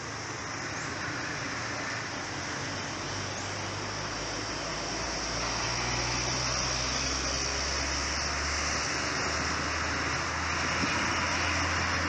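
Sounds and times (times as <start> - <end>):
wind hiss: 0.0 - 12.0.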